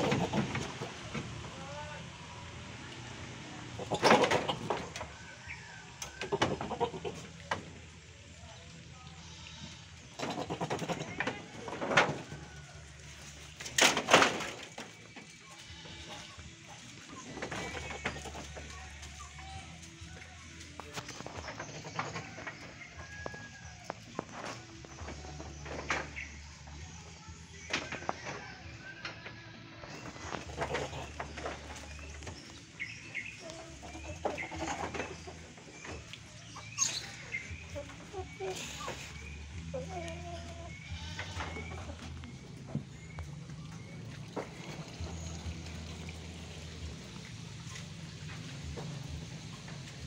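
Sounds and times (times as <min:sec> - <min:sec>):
farmyard birds chirping and clucking: 0:00.0 - 0:01.9, 0:02.5 - 0:50.0.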